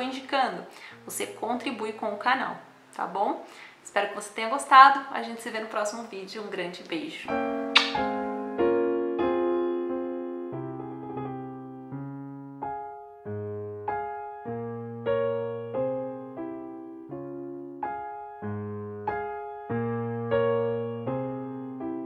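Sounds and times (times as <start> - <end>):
slow gentle piano music: 0.0 - 3.2, 7.2 - 22.0.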